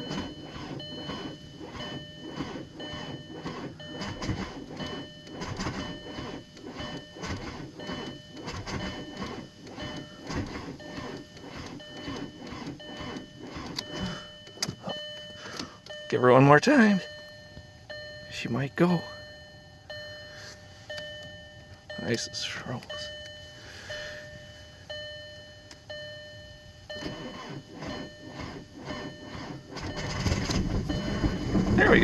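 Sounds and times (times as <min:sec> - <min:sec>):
diesel engine cranking: 0:00.0 - 0:32.0.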